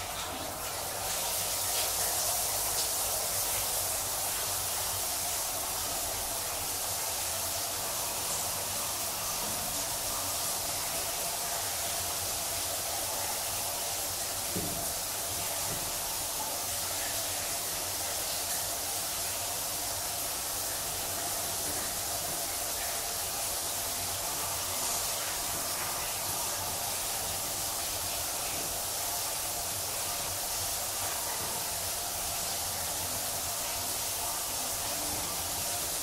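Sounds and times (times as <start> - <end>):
shower water spraying: 0.0 - 36.0.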